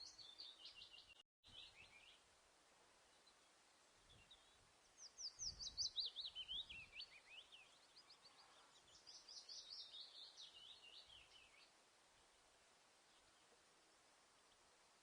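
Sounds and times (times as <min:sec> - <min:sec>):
faint outdoor hiss: 0:00.0 - 0:15.0
songbird chirping: 0:00.0 - 0:15.0.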